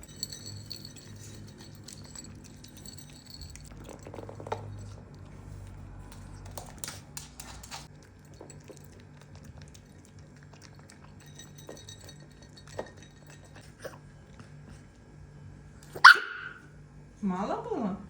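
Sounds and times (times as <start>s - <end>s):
puppy chewing: 0.0s - 15.2s
steady low hum: 0.0s - 18.0s.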